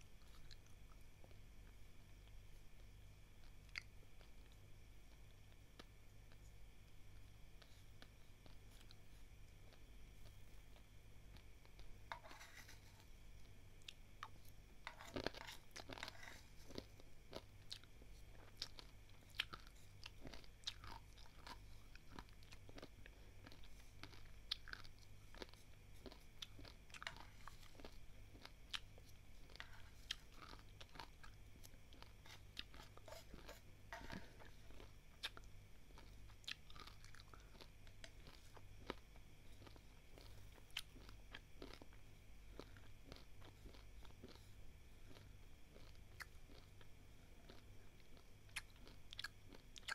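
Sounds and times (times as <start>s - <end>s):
chewing crunchy dry rice: 0.0s - 49.9s.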